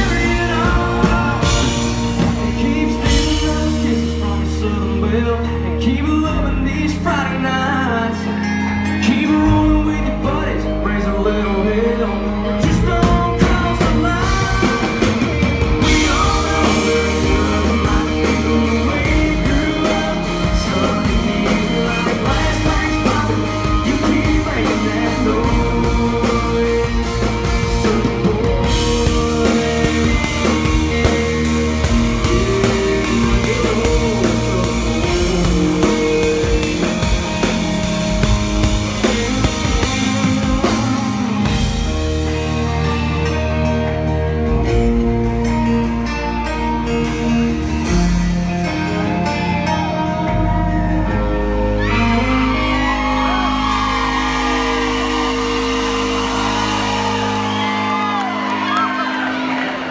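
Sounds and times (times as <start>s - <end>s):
man singing: 0.0s - 43.6s, 47.2s - 58.1s
country-rock band playing: 0.0s - 59.9s.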